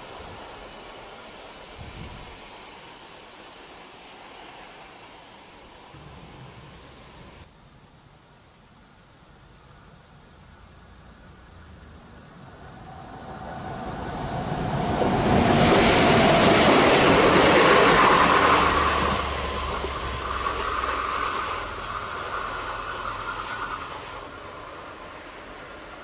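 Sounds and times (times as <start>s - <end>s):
train wheel and rail rushing: 0.0s - 7.5s, 12.0s - 26.0s
steady high train whine: 0.0s - 26.0s.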